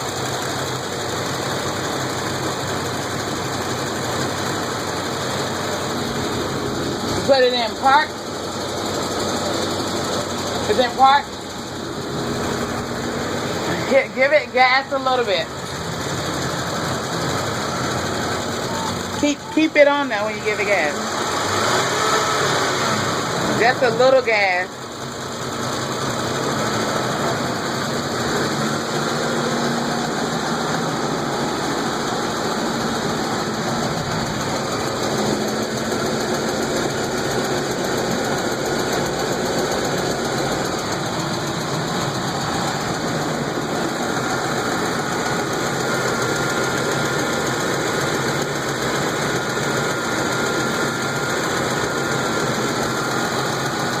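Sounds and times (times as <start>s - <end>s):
engine ticking: 0.0s - 54.0s
truck engine running: 0.0s - 54.0s.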